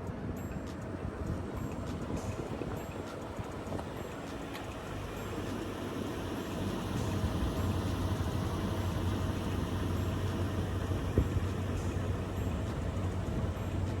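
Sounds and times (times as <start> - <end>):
vehicle engine droning: 0.1 - 14.0.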